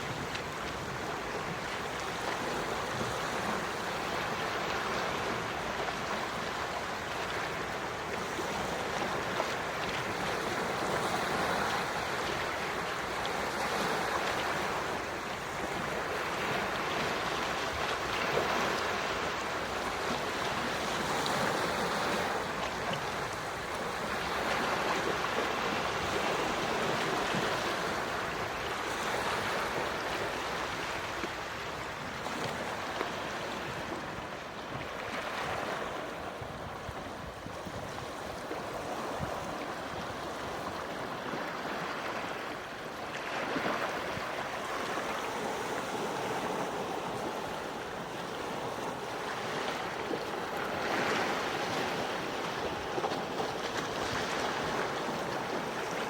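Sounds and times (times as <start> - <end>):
waves washing onto shore: 0.0 - 56.0.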